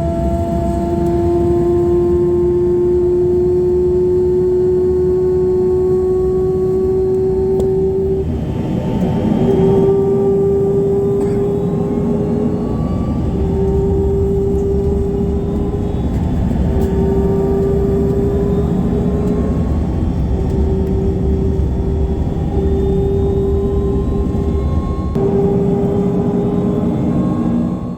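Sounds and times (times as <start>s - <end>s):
dense low rumble: 0.0s - 27.9s
jet engines moaning: 0.0s - 27.9s.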